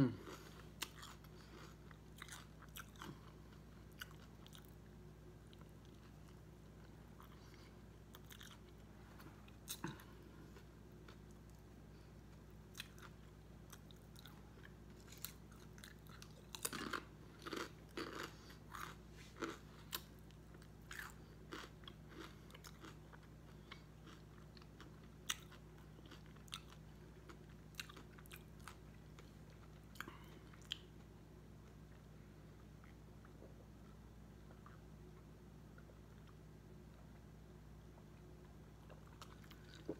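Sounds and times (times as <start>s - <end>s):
person chewing sandwich: 0.0s - 37.3s, 37.9s - 39.9s.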